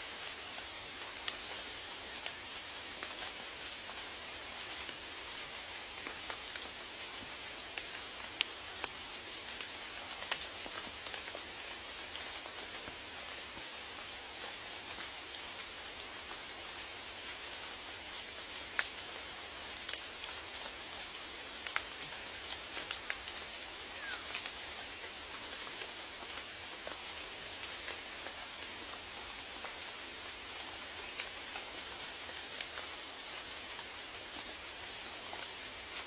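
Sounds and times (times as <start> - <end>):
raindrops ticking on a surface: 0.0 - 36.0
steady rain hiss: 0.0 - 36.0.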